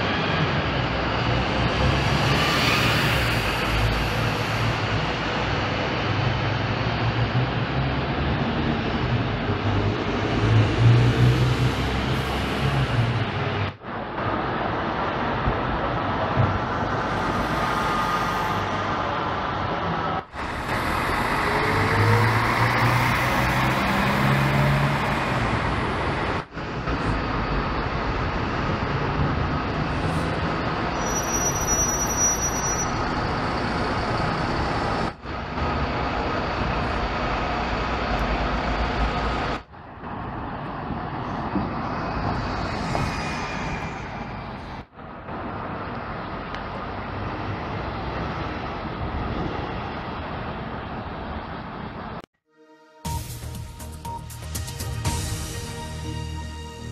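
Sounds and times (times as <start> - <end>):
buses driving past: 0.0 - 52.3, 53.1 - 56.9
traffic noise: 0.0 - 52.3, 53.1 - 56.9.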